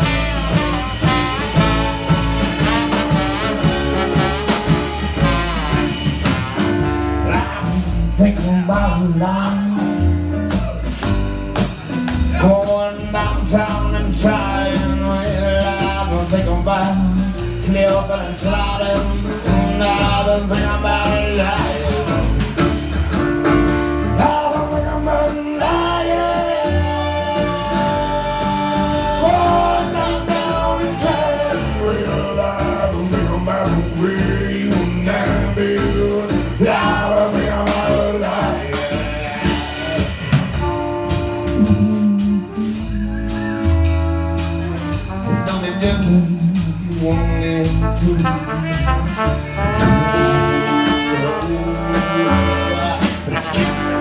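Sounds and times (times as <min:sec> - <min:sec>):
drum kit steady beat: 0:00.0 - 0:54.0
small live band playing: 0:00.0 - 0:54.0.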